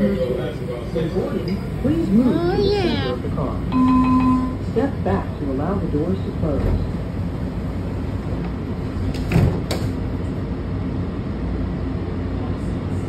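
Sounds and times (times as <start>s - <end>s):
railcar rumbling: 0.0s - 13.0s.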